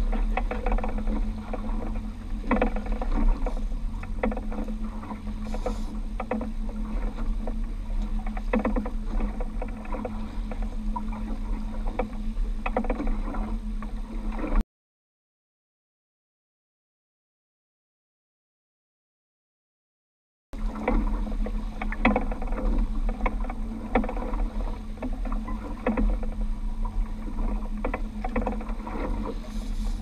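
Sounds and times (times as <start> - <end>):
outboard motor running: 0.0 - 14.6, 20.6 - 30.0
water splashing against hull: 0.0 - 14.6, 20.6 - 30.0.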